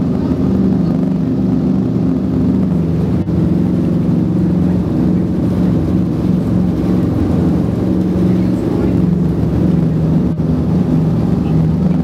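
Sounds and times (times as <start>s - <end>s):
aircraft piston engines droning: 0.0s - 12.0s.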